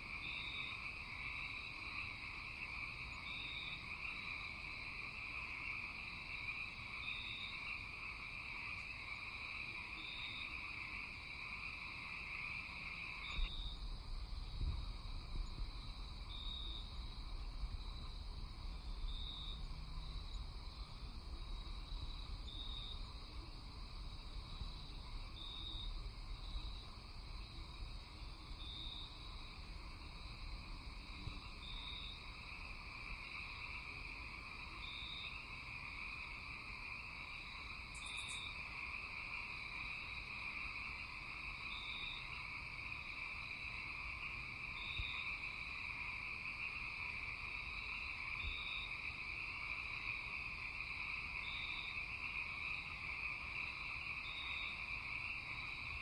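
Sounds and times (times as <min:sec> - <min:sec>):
frogs and insects trilling: 0:00.0 - 0:56.0.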